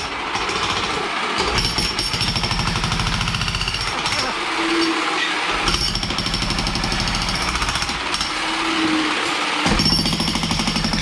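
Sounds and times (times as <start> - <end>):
demolition hammer pounding: 0.0 - 11.0.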